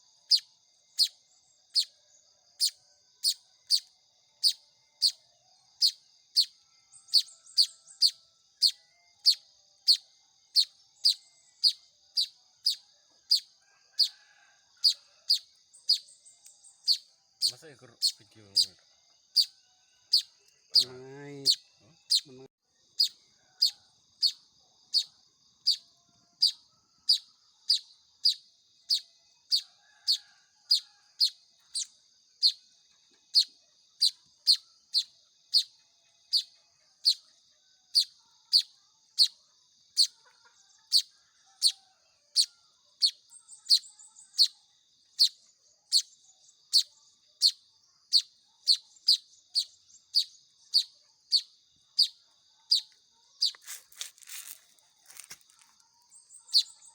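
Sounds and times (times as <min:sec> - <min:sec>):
bird chick chirping: 0:00.3 - 0:02.0, 0:02.6 - 0:05.2, 0:05.8 - 0:22.4, 0:23.0 - 0:32.6, 0:33.2 - 0:37.3, 0:37.9 - 0:56.9.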